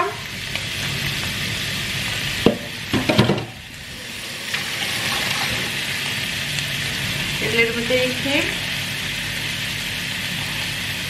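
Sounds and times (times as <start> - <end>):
meat and onions sizzling in pan: 0.0 - 11.0.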